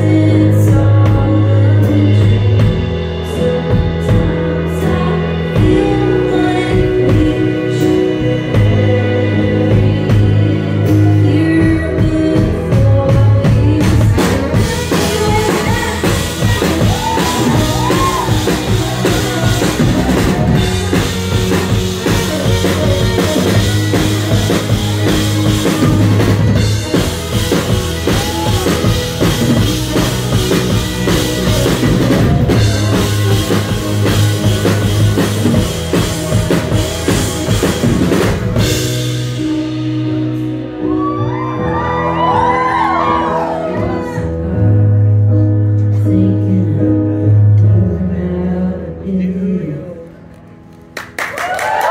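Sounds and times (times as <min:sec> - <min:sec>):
drum kit beat: 0:00.0 - 0:43.5
electric bass: 0:00.0 - 0:51.9.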